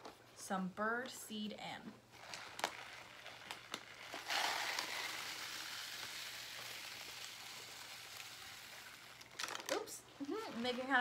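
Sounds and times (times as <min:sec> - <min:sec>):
seed pouring into bottle: 0:02.2 - 0:11.0.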